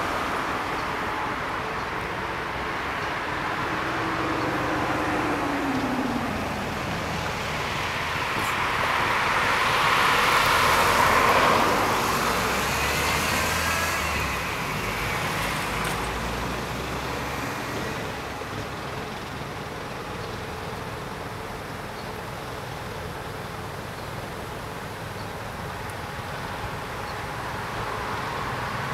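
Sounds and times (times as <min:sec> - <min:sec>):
road vehicle passing: 0:00.0 - 0:21.6, 0:26.1 - 0:28.9.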